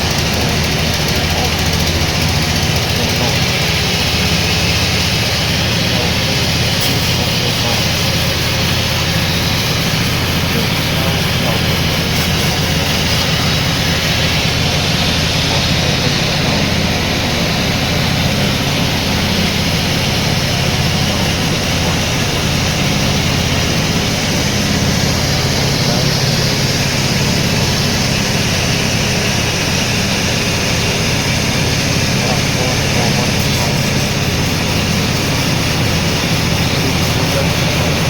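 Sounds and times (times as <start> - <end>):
sawmill machinery droning: 0.0 - 38.0.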